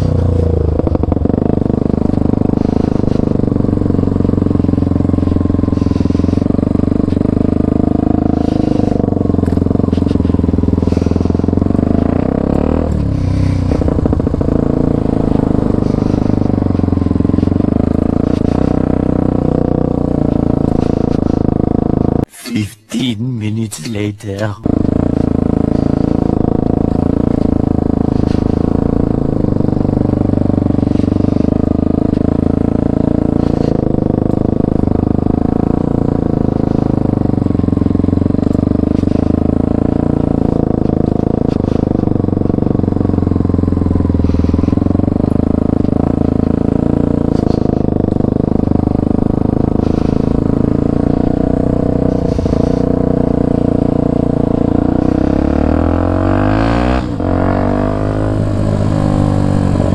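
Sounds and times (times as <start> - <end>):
motorcycle engine running: 0.0 - 22.3, 24.6 - 59.9.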